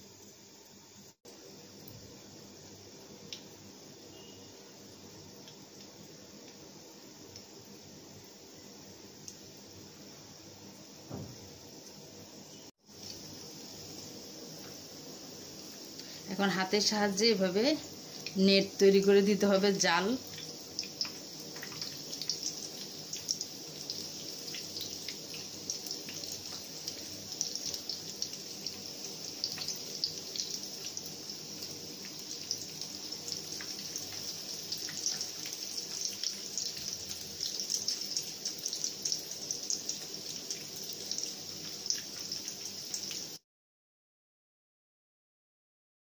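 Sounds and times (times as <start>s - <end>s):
meat sizzling in hot oil: 0.0s - 43.4s.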